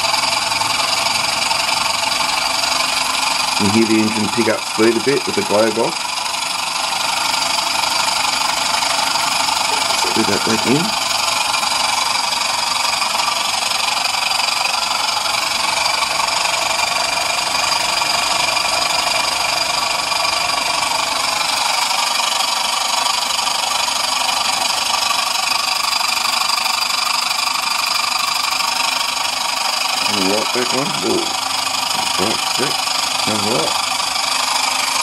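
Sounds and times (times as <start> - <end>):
toy steam engine hissing and chuffing: 0.0 - 35.0.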